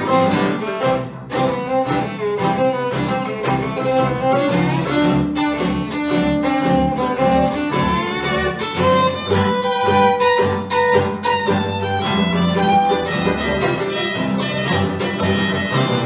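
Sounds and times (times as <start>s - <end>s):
bluegrass string band playing: 0.0s - 16.0s
fiddle melody: 0.0s - 16.0s.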